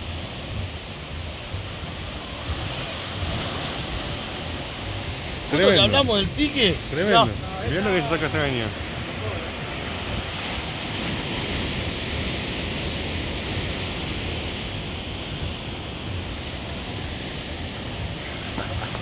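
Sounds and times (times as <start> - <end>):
waves breaking on rocks: 0.0 - 19.0.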